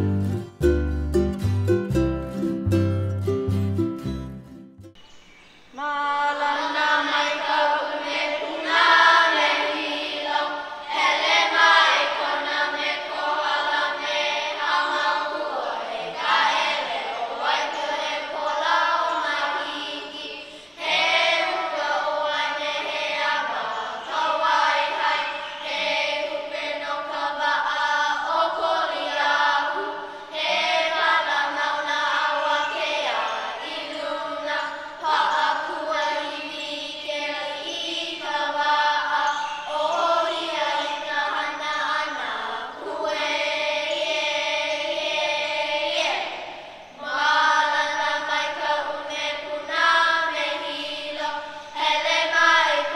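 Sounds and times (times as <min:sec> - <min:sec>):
children chanting in unison: 0:05.7 - 0:52.9.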